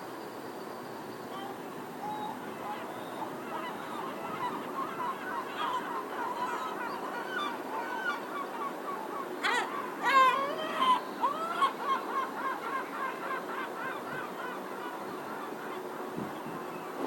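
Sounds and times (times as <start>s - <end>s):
gulls calling: 1.2s - 17.0s.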